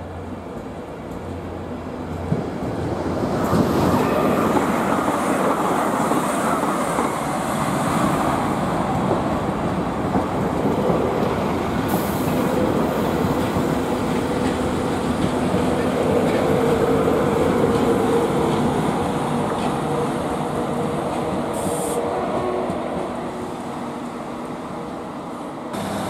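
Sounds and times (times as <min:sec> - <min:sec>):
train wheels rolling on rail: 0:00.0 - 0:26.0.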